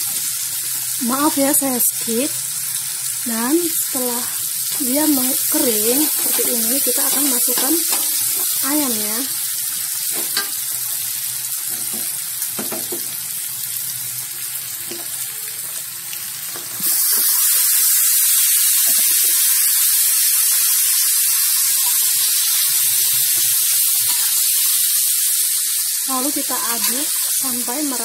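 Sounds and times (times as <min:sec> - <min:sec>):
chicken sizzling loudly: 0:00.0 - 0:28.0
spice paste frying in a wok: 0:00.0 - 0:28.0.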